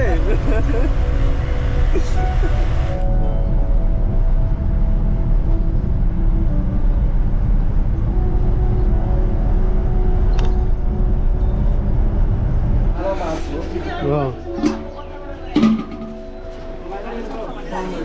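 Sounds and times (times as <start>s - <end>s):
vehicle engine and road rumble: 0.0s - 16.8s.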